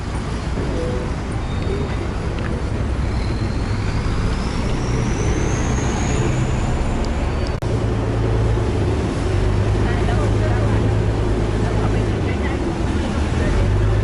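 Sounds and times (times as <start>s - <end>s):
boat engine droning: 0.0s - 14.0s
rushing water: 0.0s - 14.0s.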